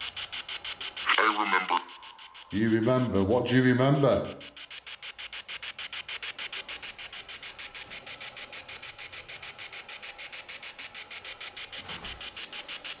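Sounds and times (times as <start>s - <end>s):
hissy static chirps: 0.0s - 13.0s.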